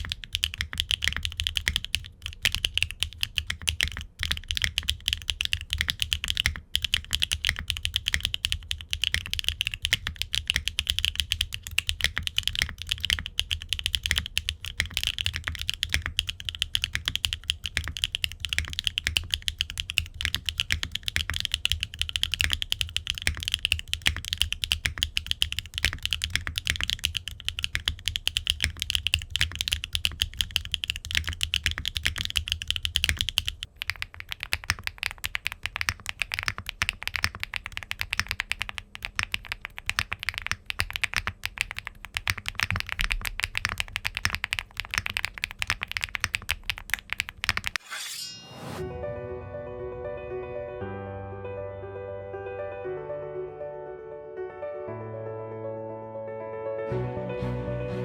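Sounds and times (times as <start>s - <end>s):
mechanical keyboard typing: 0.0s - 47.8s.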